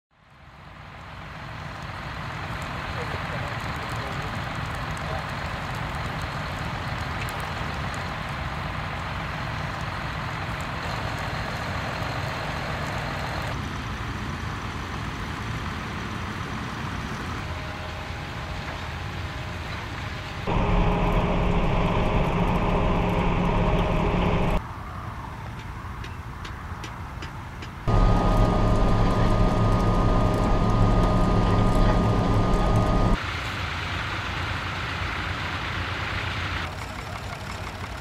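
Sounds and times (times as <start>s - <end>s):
tractor engines under load: 0.4s - 24.6s, 25.4s - 38.0s.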